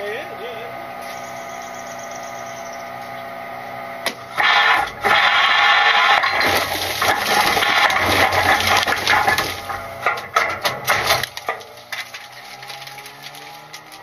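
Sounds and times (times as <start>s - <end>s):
truck engine running: 0.0s - 14.0s
garbage truck compacting trash: 0.9s - 14.0s.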